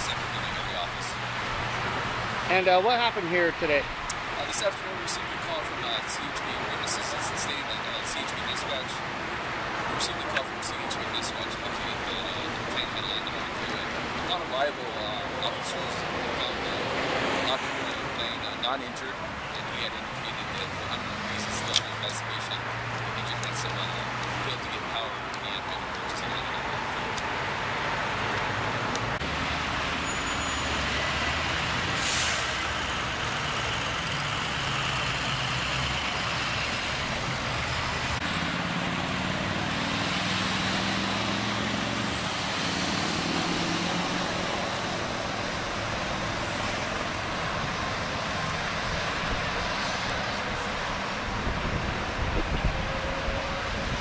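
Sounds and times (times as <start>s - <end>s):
freeway traffic: 0.0s - 54.0s
heavy vehicle engine hum: 0.0s - 54.0s.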